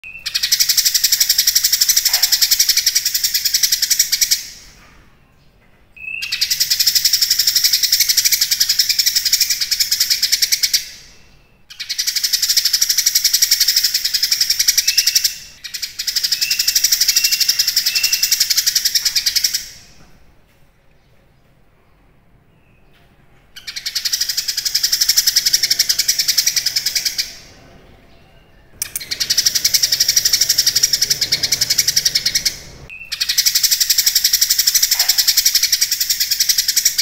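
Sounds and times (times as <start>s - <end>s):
bird singing buzzy trill: 0.0s - 20.0s, 23.6s - 37.0s.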